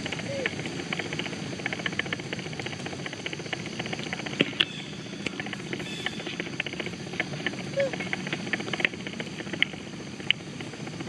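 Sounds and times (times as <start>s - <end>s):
rapid small ticks and clicks: 0.0s - 11.0s
steady high-pitched hum: 0.0s - 11.0s.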